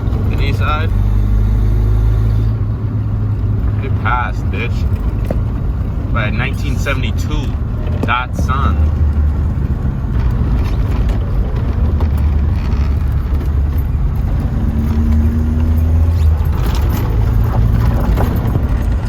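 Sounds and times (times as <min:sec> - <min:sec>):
engine low drone: 0:00.0 - 0:19.0
road noise: 0:00.0 - 0:19.0.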